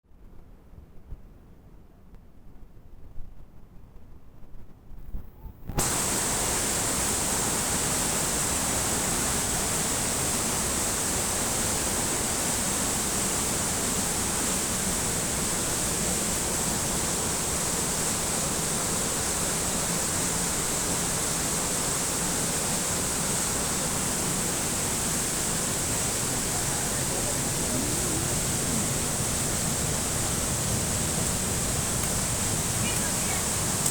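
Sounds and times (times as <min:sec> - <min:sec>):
rushing water: 0:05.8 - 0:33.9.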